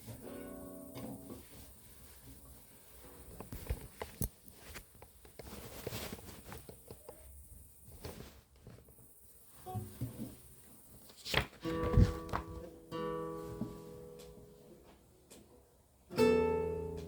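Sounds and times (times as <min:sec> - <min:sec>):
soft rustling: 0:00.0 - 0:15.5.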